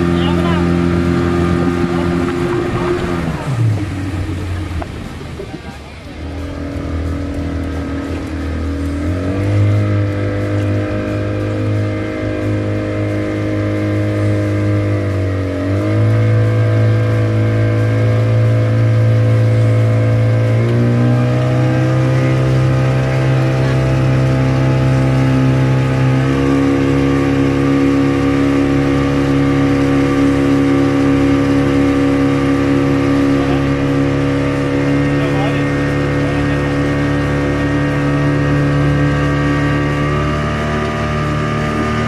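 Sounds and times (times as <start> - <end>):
outboard motor running: 0.0 - 42.0.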